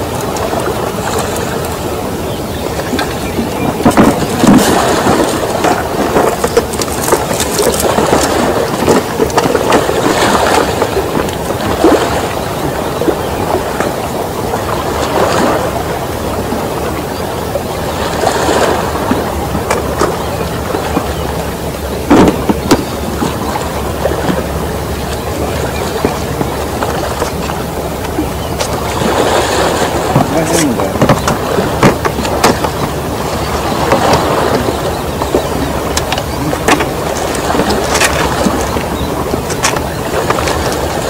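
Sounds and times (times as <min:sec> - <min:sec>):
waves sloshing against rocks: 0:00.0 - 0:41.0.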